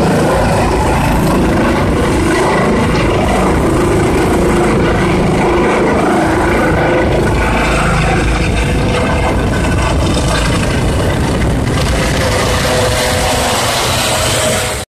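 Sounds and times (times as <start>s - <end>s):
helicopter flying overhead: 0.0s - 14.9s.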